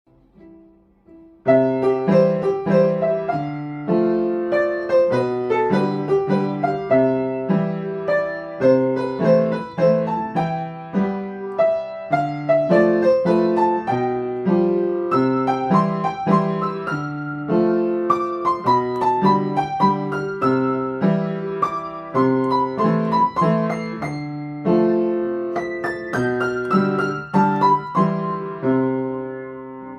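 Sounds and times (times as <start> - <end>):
piano melody: 0.1 - 29.9.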